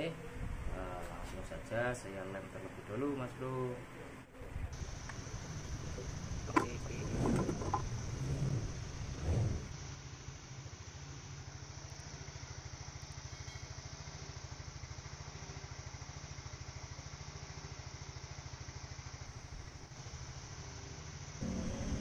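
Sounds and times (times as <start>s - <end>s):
engine idling: 3.9s - 22.0s.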